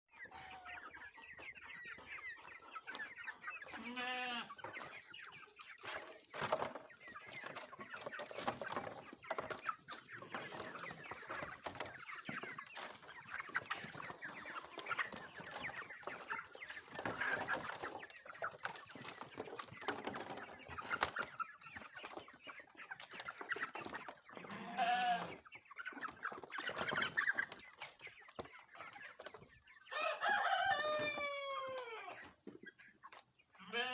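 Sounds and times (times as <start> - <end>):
chickens clucking: 0.1 - 33.9
drawn-out chicken call: 0.1 - 33.9.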